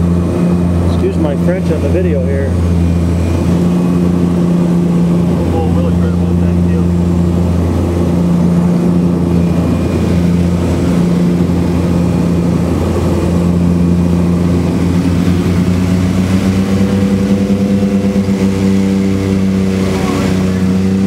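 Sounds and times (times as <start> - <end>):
propeller engines droning: 0.0 - 21.0.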